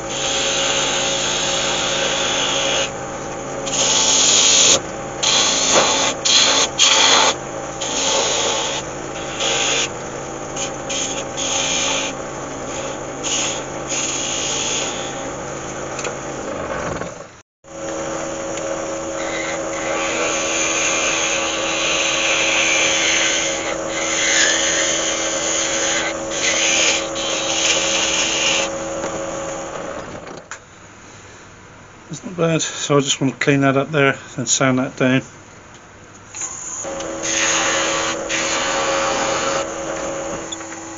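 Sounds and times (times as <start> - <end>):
lathe tool scraping wood: 0.0 - 30.4, 36.4 - 40.9
steady hum: 0.0 - 40.9.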